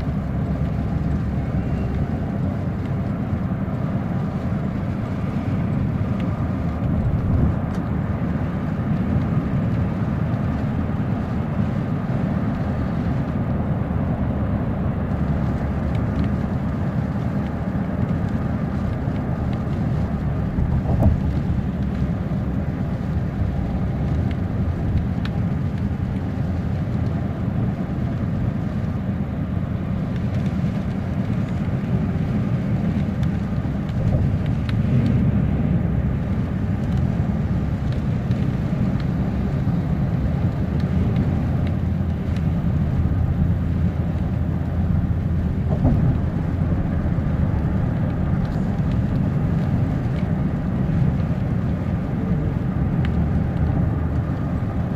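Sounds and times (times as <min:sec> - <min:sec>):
road and tyre rumble inside car: 0:00.0 - 0:54.9.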